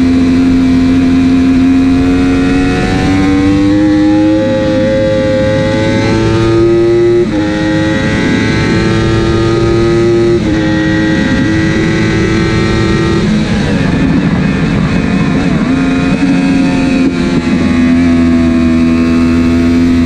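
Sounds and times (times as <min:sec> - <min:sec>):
motorcycle engine at high revs: 0:00.0 - 0:20.0
wind rushing over microphone: 0:00.0 - 0:20.0.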